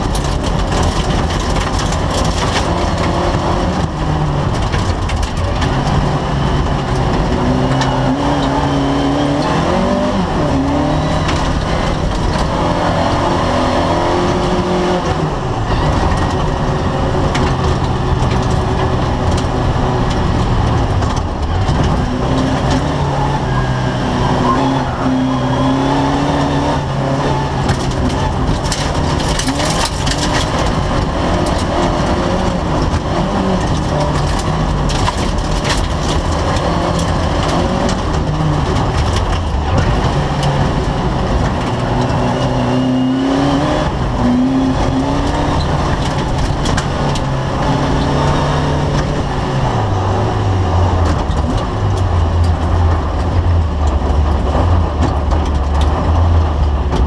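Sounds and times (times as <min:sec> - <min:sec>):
car body knocking and rattling: 0:00.0 - 0:08.7, 0:10.2 - 0:23.6, 0:26.2 - 0:57.0
race car engine revving: 0:00.0 - 0:57.0.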